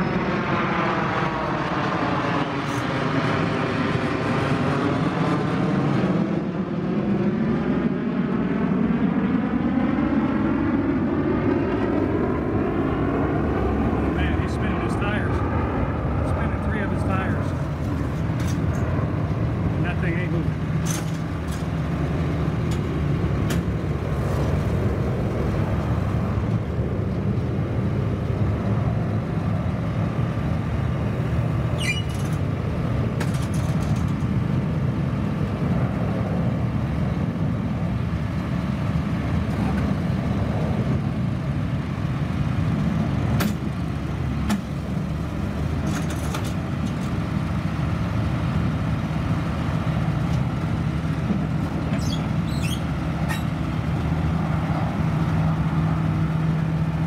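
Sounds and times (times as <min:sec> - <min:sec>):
diesel engines droning: 0:00.0 - 0:57.0.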